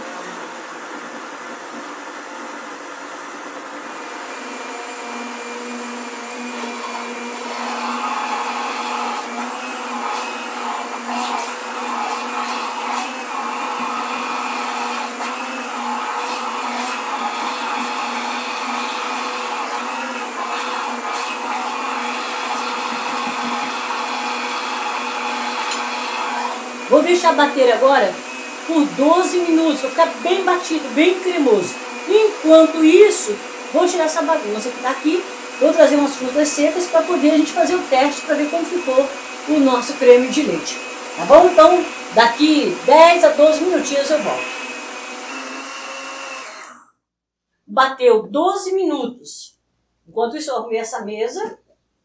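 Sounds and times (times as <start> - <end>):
blender motor running: 0.0 - 46.9.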